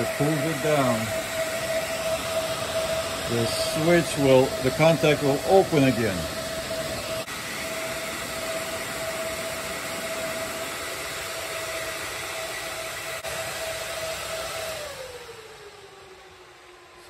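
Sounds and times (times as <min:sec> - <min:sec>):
cooling fans rushing and humming: 0:00.0 - 0:17.0.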